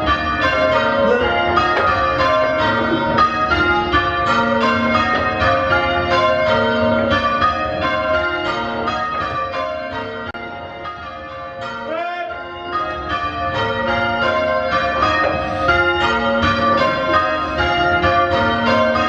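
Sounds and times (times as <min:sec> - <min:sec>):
church bells change ringing: 0:00.0 - 0:19.0.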